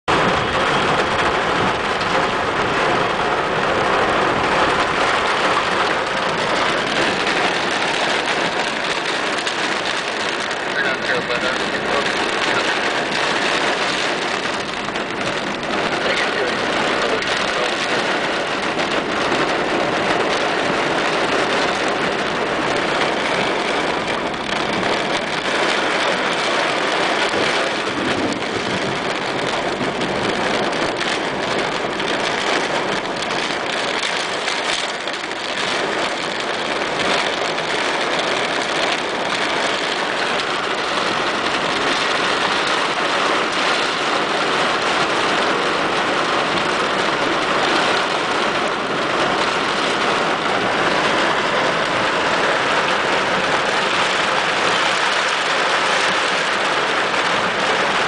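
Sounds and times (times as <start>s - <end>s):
heavy rain on a car: 0.0s - 58.0s.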